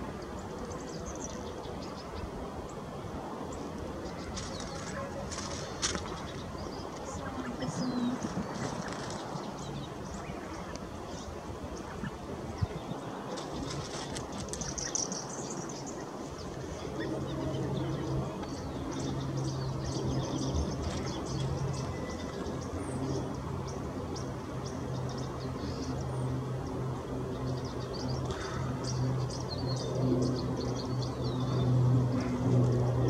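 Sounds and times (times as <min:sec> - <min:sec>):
propeller aircraft droning: 0:00.0 - 0:33.0
small birds chirping: 0:00.1 - 0:33.0.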